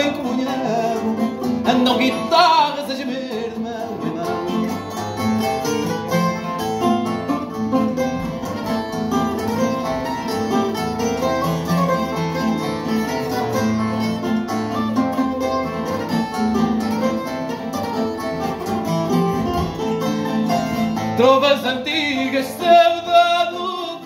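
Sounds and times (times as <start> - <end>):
classical guitar accompaniment: 0.0 - 24.0
guitar picking melody: 0.0 - 24.0.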